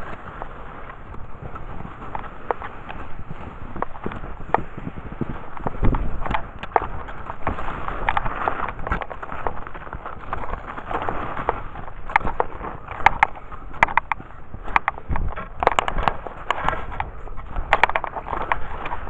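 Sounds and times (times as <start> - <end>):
sharp clicks and crackles: 0.0 - 19.0
skis crunching through snow: 0.0 - 19.0.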